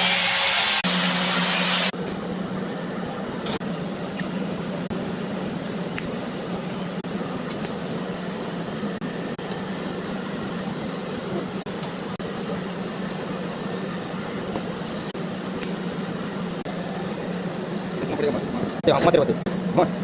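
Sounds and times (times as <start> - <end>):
machine hum with hiss: 0.0 - 20.0.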